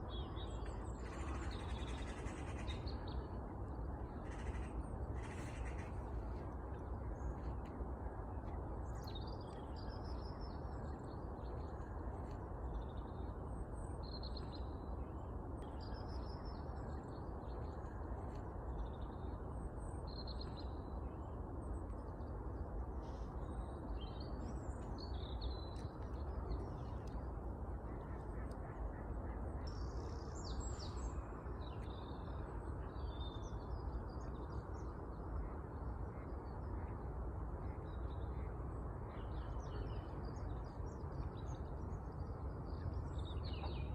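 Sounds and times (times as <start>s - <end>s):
low background rumble: 0.0s - 43.9s
songbirds chirping: 0.0s - 43.9s.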